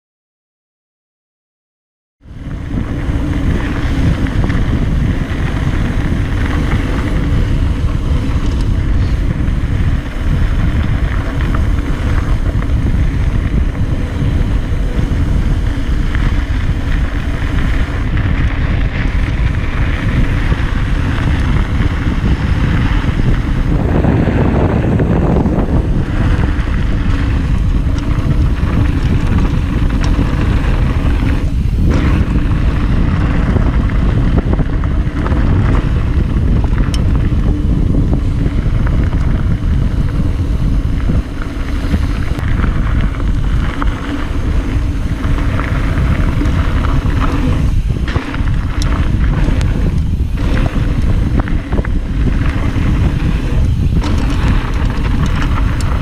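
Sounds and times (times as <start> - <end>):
wind buffeting on microphone: 2.2 - 56.0.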